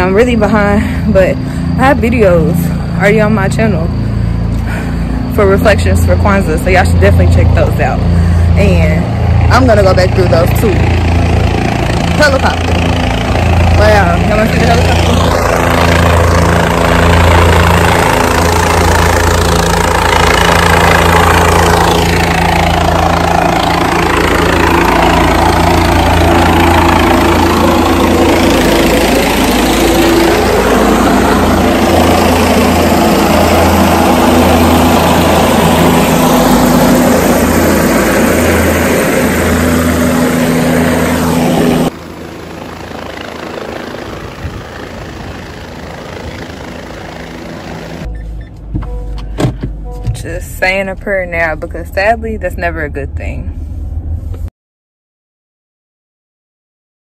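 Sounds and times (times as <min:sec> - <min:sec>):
helicopter flying close: 0:00.0 - 0:54.5.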